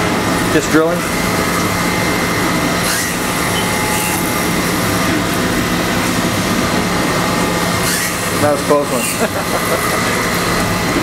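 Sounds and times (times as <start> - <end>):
machine high whine: 0.0 - 11.0
machine low hum: 0.0 - 11.0.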